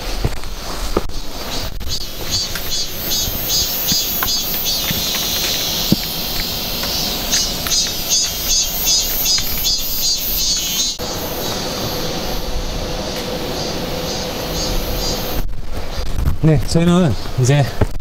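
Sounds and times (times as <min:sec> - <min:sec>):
cicadas calling: 0:00.0 - 0:16.1.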